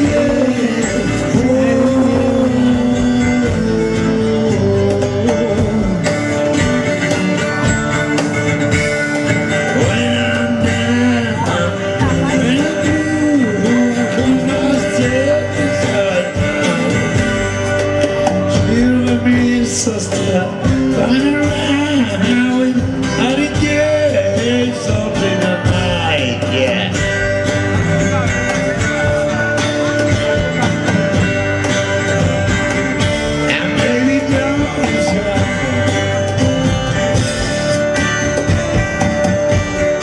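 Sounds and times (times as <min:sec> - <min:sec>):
live band playing: 0:00.0 - 0:40.0.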